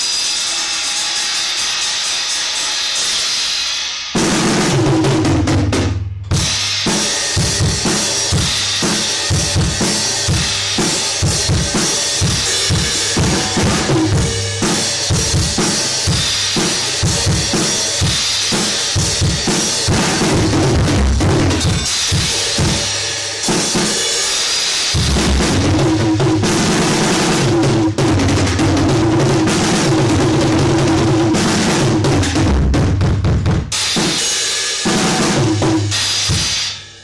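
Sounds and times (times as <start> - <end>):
drum kit groove: 0.0 - 37.0.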